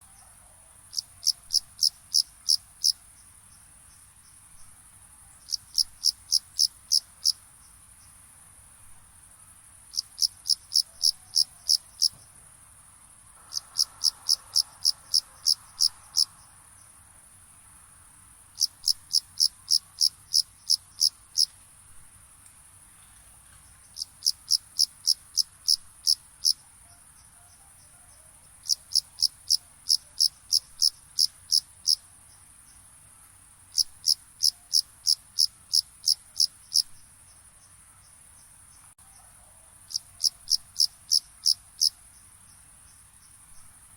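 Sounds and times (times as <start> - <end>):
cricket chirping: 0.0 - 43.9.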